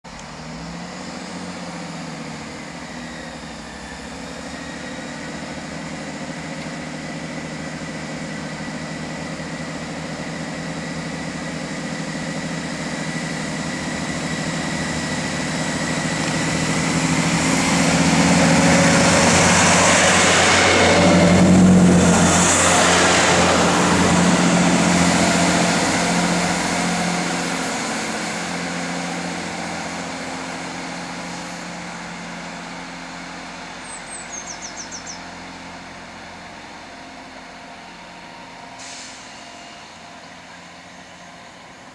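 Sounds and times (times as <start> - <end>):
diesel train accelerating: 0.1 - 41.9
wheel noise of passing train: 0.1 - 41.9.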